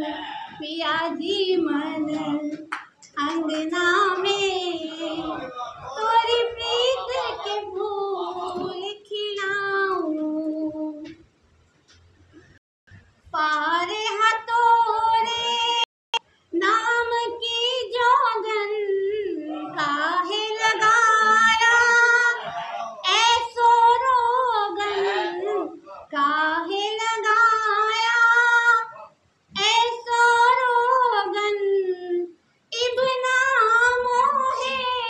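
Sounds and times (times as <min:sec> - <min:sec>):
woman singing unaccompanied: 0:00.0 - 0:11.2, 0:13.3 - 0:15.9, 0:16.5 - 0:35.0.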